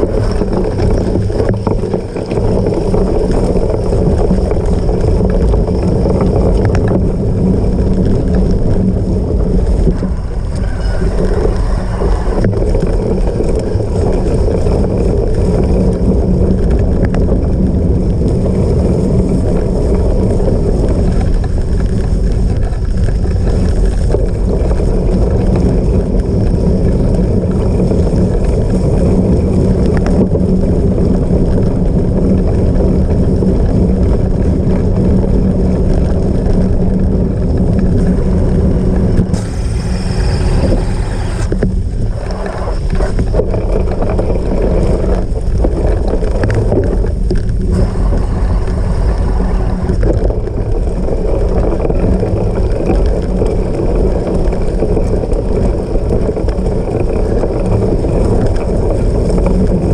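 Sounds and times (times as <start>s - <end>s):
bike rumbling off-road: 0.0s - 59.9s
constant low hum: 0.0s - 59.9s
wind buffeting microphone: 0.0s - 59.9s.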